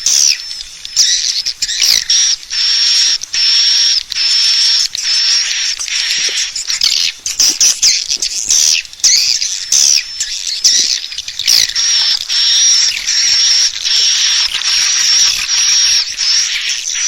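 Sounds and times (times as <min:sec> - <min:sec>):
swiftlets chirping and twittering: 0:00.0 - 0:17.0.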